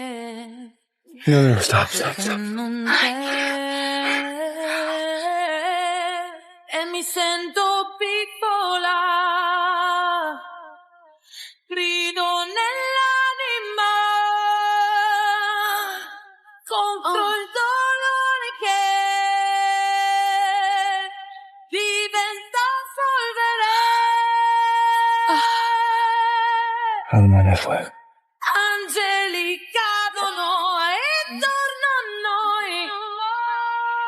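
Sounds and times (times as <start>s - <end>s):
woman singing with vibrato: 0.0s - 10.7s, 11.7s - 27.1s, 28.4s - 34.0s.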